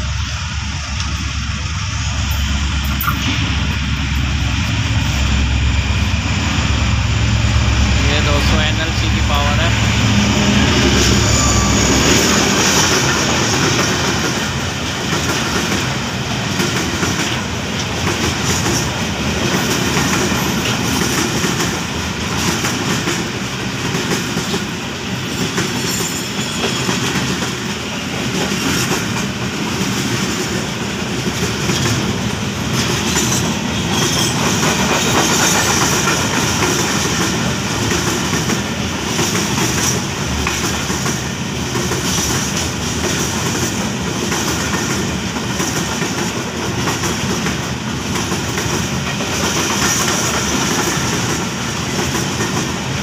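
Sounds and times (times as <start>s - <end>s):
diesel locomotive passing: 0.0s - 53.0s
train wheels clickety-clack: 2.2s - 53.0s.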